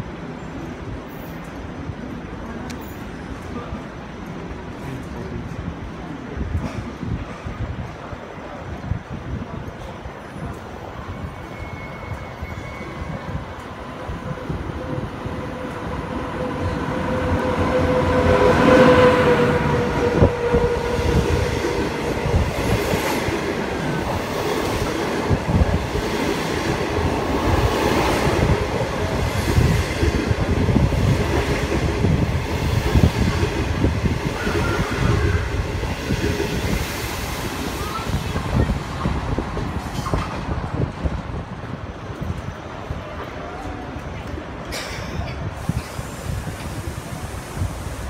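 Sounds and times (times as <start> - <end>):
train coaches rumbling: 0.0 - 48.0.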